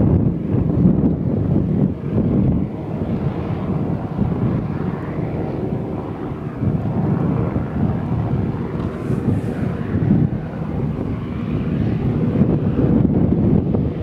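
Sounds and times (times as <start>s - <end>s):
hovercraft engine and propeller: 0.0s - 14.0s.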